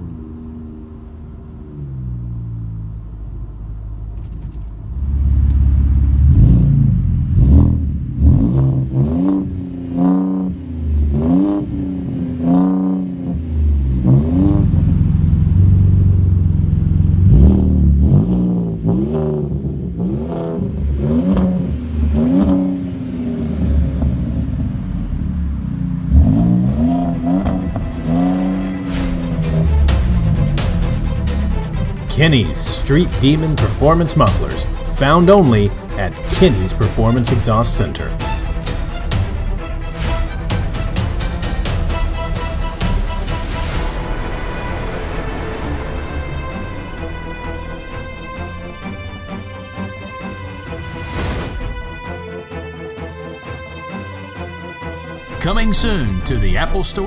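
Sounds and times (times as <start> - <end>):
engine revving: 4.2 - 52.2.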